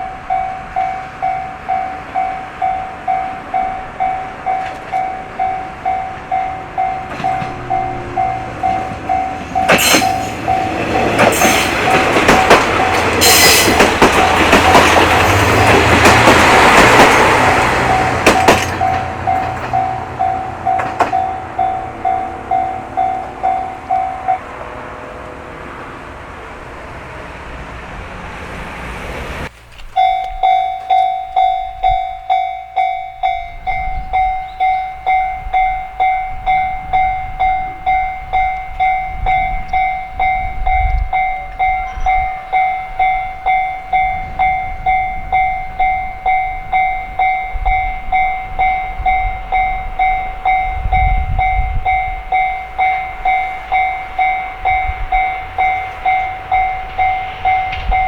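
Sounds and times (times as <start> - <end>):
railway crossing warning bell: 0.0 - 24.9, 29.1 - 58.0
train running past: 0.0 - 58.0.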